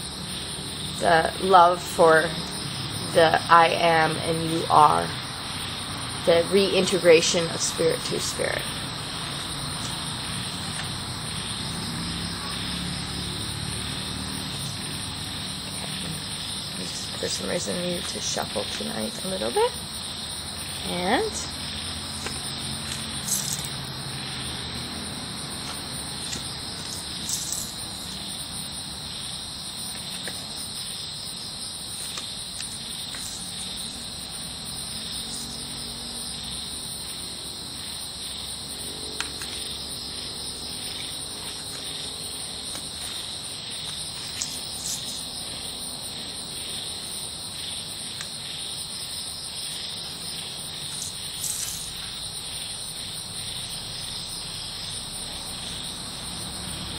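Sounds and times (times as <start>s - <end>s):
night insects trilling: 0.0s - 56.9s.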